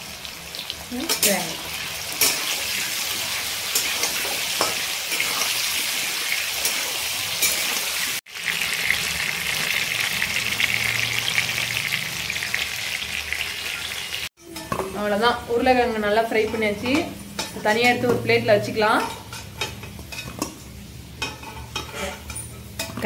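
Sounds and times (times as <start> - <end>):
potatoes sizzling in hot oil: 0.0 - 23.0.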